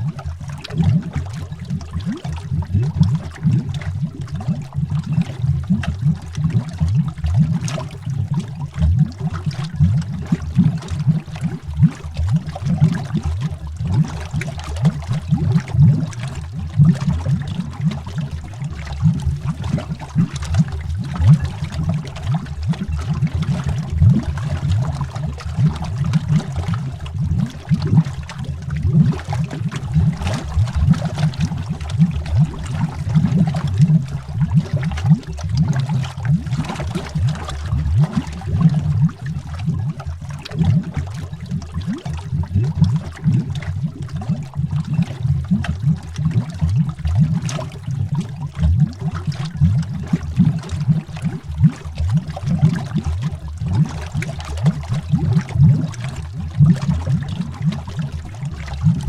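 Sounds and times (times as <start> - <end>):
underwater bubbles gurgling: 0.0 - 59.0.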